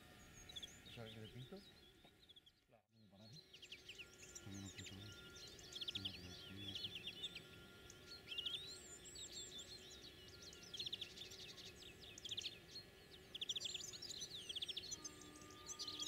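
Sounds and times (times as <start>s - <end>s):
small songbirds singing: 0.0s - 16.0s.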